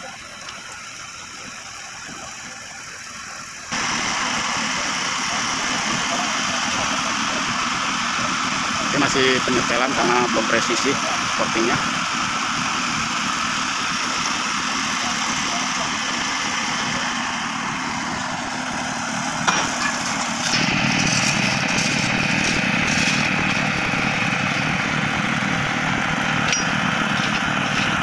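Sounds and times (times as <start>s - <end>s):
heavy machinery engine idling: 0.0s - 28.0s.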